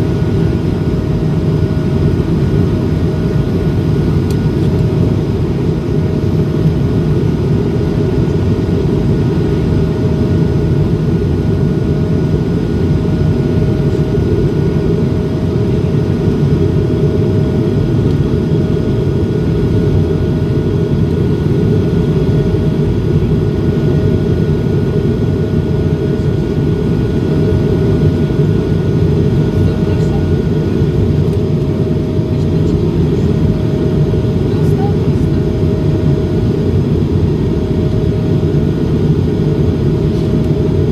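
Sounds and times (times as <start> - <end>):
faint jet engine whine: 0.0 - 40.9
jet airliner rumble: 0.0 - 40.9.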